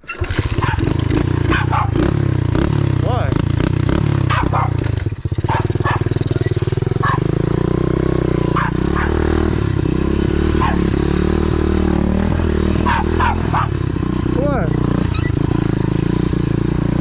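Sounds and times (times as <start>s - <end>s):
motorbike engine running: 0.2s - 17.0s.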